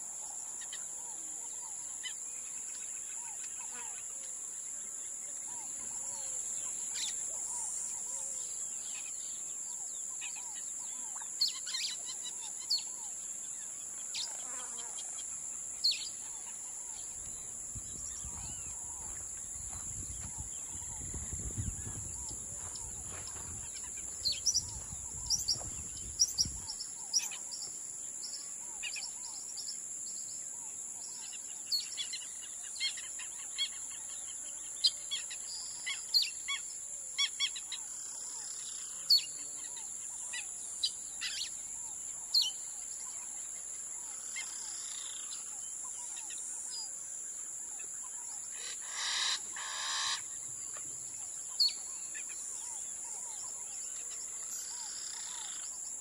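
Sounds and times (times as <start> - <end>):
wild birds chirping: 0.2 - 56.0.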